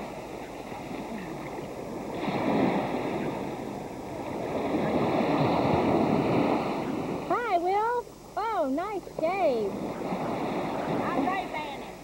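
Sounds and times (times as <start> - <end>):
small waves breaking in shallows: 0.0 - 7.3, 9.6 - 12.0.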